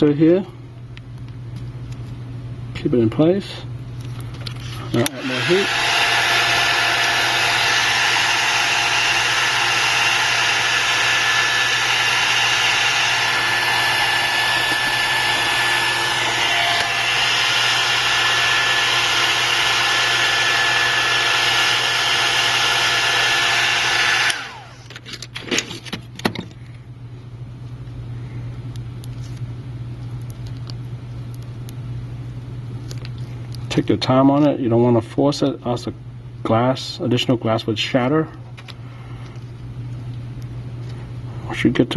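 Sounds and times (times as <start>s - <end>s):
heat gun fan hiss and whine: 0.0s - 41.9s.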